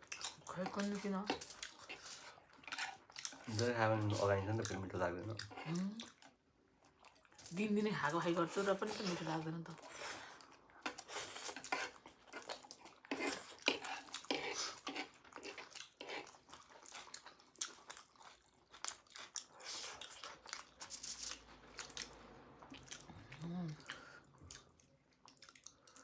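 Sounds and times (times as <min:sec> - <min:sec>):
wet crunchy chewing: 0:00.0 - 0:07.5, 0:10.3 - 0:26.0.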